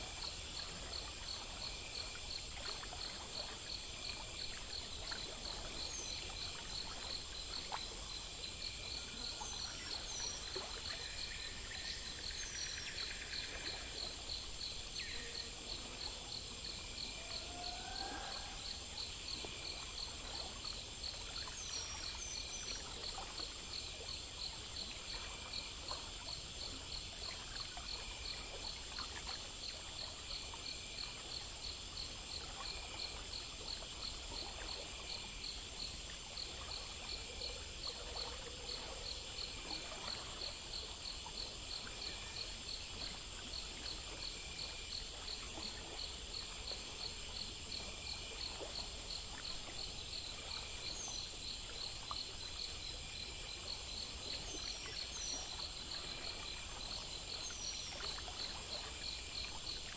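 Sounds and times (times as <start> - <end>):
crickets chirping: 0.0 - 59.9
high-pitched insect trill: 0.0 - 59.9.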